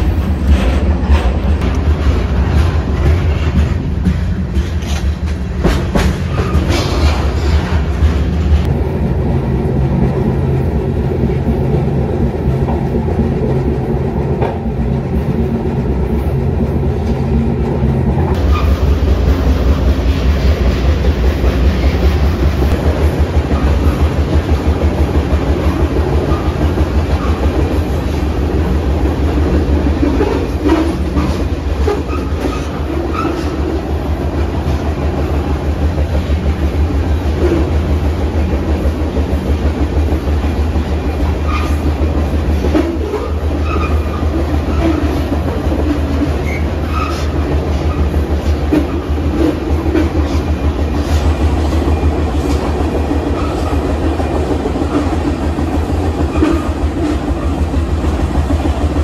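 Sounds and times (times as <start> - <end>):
train wheels on rail: 0.0 - 59.0.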